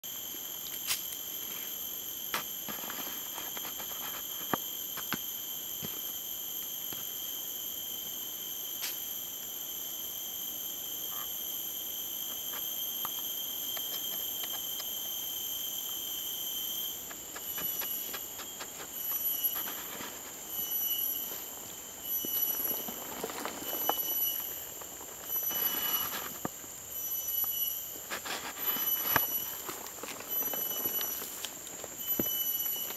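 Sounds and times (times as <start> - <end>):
insects singing: 0.0 - 32.9.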